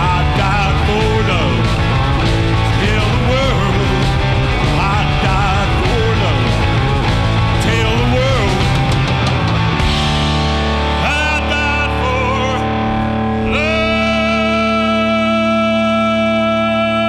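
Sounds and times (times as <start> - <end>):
electric guitar lead line: 0.0 - 17.0
rock band playing: 0.0 - 17.0.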